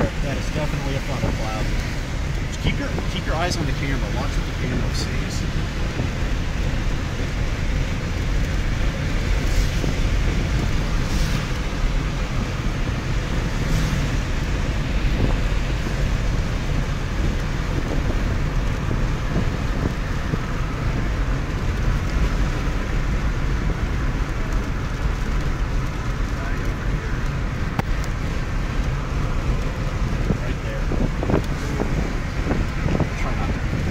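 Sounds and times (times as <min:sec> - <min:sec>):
car cabin road noise: 0:00.0 - 0:33.9.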